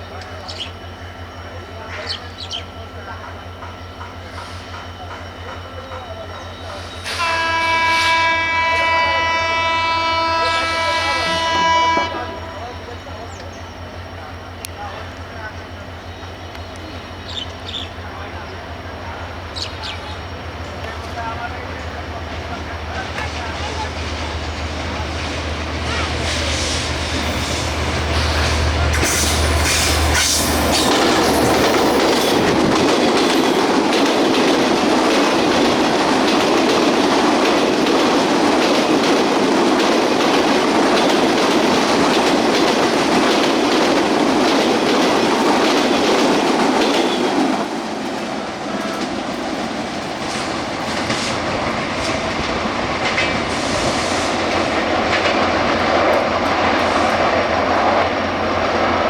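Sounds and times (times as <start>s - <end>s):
diesel locomotive humming: 0.0s - 59.0s
train wheels clattering on rails: 1.4s - 8.6s, 10.2s - 59.0s.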